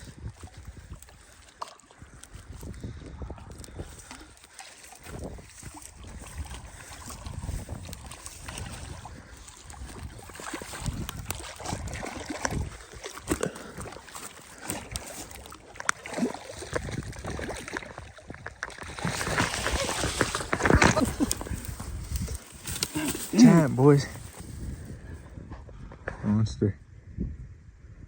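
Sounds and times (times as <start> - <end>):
wind buffeting microphone: 0.0 - 1.4, 2.0 - 28.0
water sloshing and splashing: 0.0 - 25.0.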